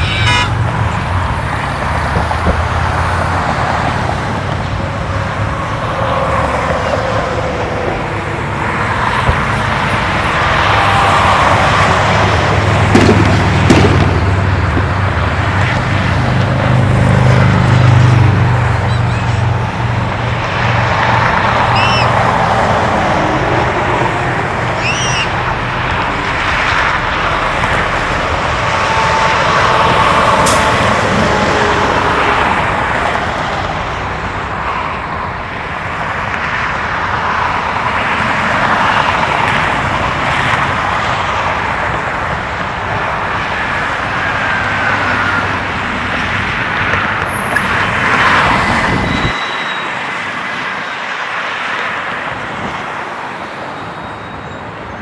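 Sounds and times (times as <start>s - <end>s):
road traffic rushing: 0.0s - 55.0s.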